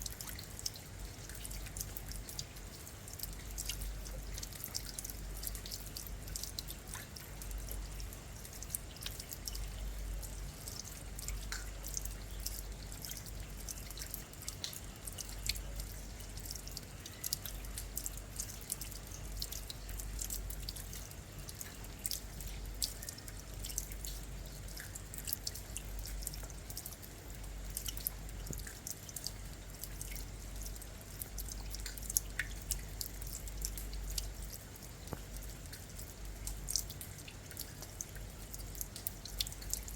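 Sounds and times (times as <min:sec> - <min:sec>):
sharp close drips: 0:00.0 - 0:39.9.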